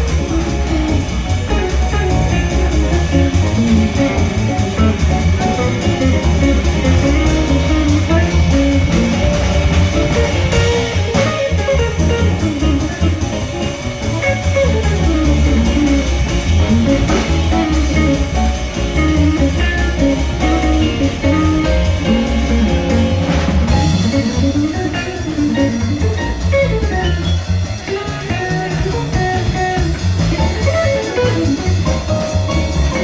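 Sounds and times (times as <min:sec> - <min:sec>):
drum kit: 0:00.0 - 0:33.0
jazz guitar lead line: 0:00.0 - 0:33.0
walking bass: 0:00.0 - 0:33.0.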